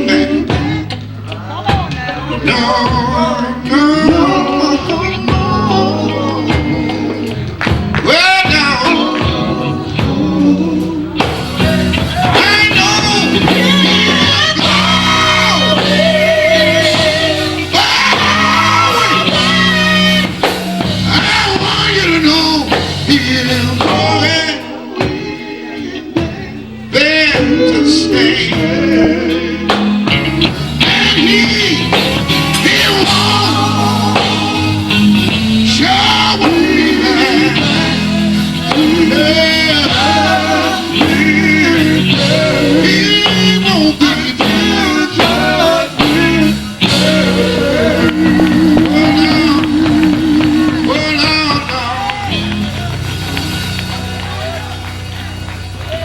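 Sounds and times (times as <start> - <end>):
band with stepping bass line: 0.0 - 56.0
electric guitar: 0.0 - 56.0
gospel quartet singing: 0.0 - 56.0.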